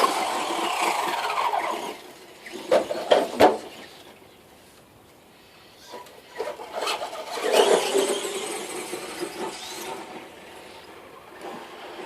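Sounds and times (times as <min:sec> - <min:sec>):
rc car motor whirring: 0:00.0 - 0:04.1, 0:05.8 - 0:12.0.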